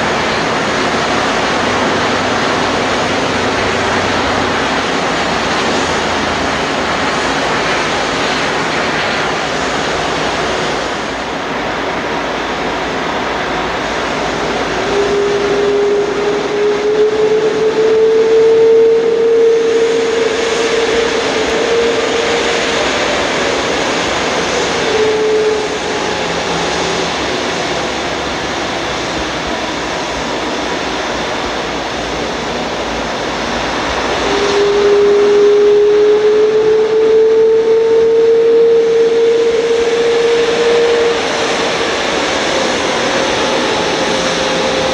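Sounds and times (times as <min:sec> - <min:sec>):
jet engines whining and hissing: 0:00.0 - 0:44.9.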